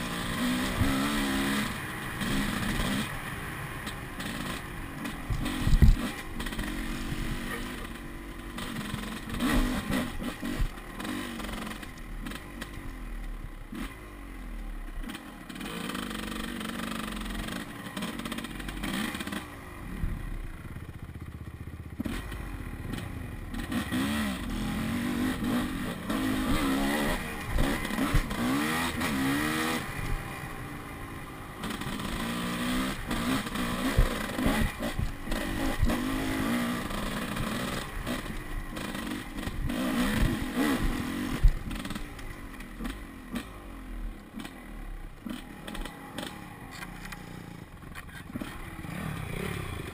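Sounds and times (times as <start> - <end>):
dirt bike engine revving: 0.0 - 12.8, 13.6 - 14.3, 15.0 - 49.9.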